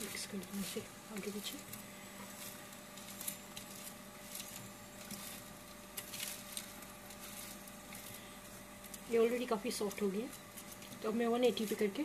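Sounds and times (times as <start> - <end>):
faint steady hum: 0.0 - 12.0
spatula scraping baking tray: 0.0 - 12.0.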